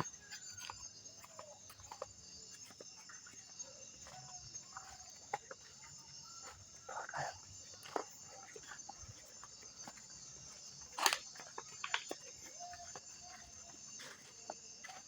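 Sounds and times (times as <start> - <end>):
footsteps: 0.0 - 15.0
high-pitched insect chorus: 0.0 - 15.0.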